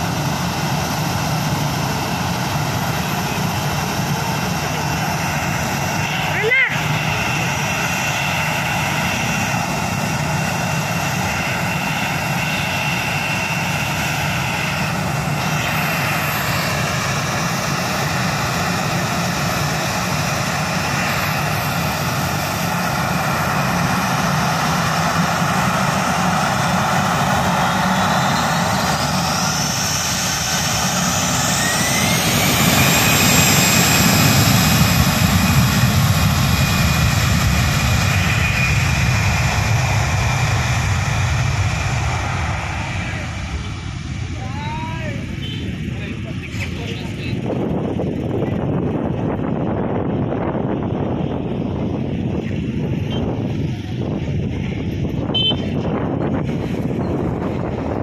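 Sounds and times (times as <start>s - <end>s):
jet engines running: 0.0s - 58.0s
jet engines spooling up: 0.0s - 58.0s.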